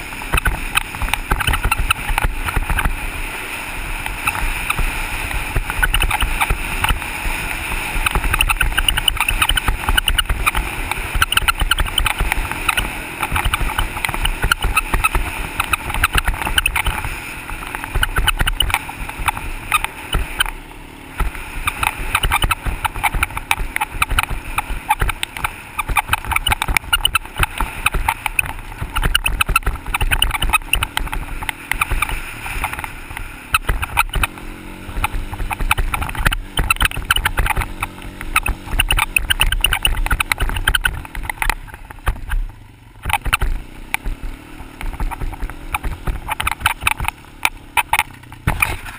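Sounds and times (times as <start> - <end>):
quad bike engine running: 0.0 - 48.9.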